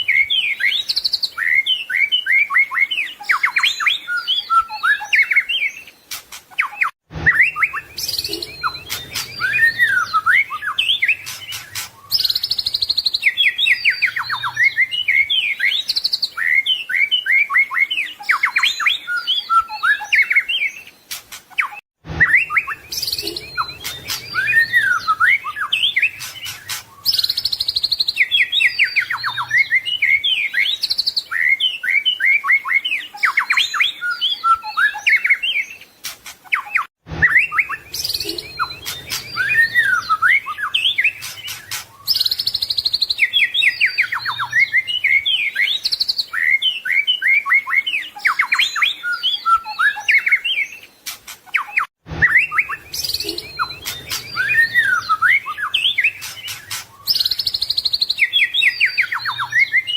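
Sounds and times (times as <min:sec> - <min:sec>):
songbird chirps trills and whistles: 0:00.0 - 0:59.9.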